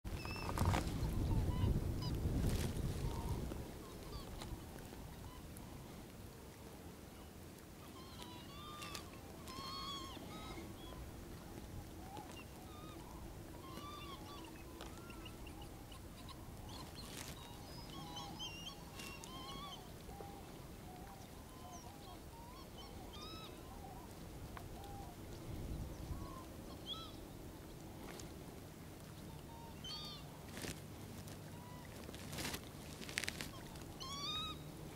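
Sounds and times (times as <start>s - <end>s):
low steady hum: 0.1s - 34.9s
waterbirds calling: 0.1s - 34.9s.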